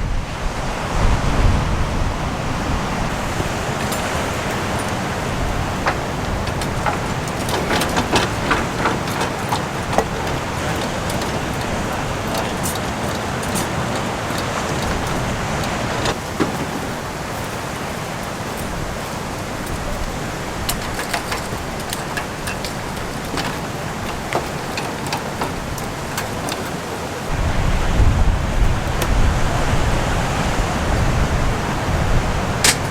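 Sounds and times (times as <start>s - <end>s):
surf rushing: 0.0s - 32.9s
wind buffeting microphone: 0.0s - 32.9s.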